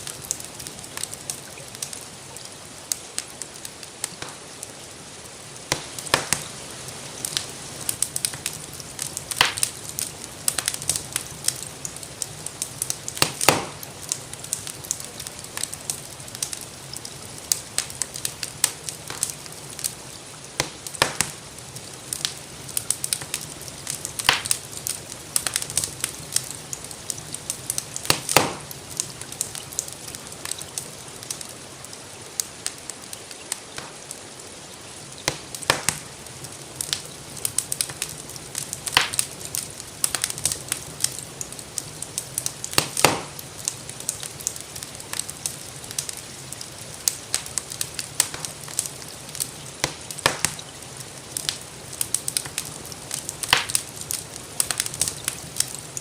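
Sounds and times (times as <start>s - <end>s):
gentle rain hiss: 0.0s - 56.0s
wood fire crackling and popping: 0.0s - 56.0s.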